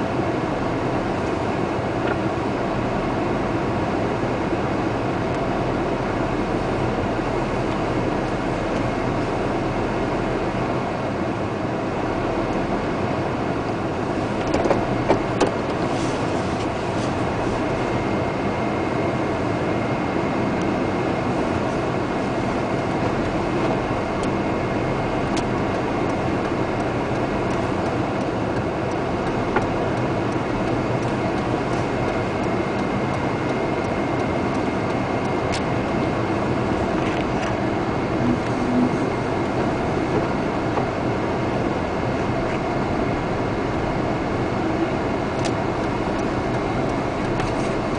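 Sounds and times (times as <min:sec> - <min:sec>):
vehicle rumbling inside: 0:00.0 - 0:47.9.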